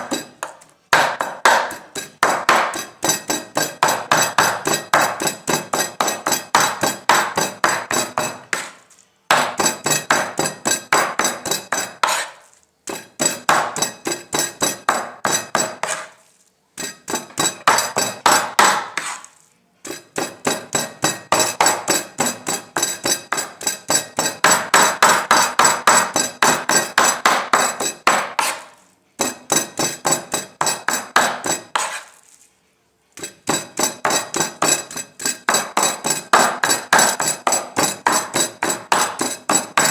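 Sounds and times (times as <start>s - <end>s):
knife chopping on cutting board: 0.0s - 16.2s, 16.8s - 19.3s, 19.9s - 32.2s, 33.2s - 39.9s.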